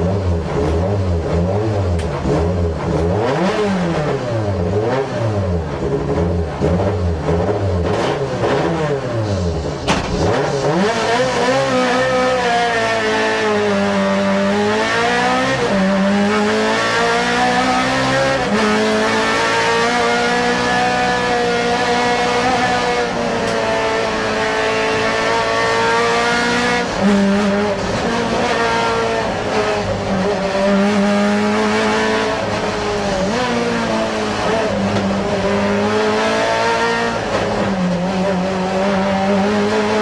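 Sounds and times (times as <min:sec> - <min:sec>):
rally car engine revving: 0:00.0 - 0:40.0.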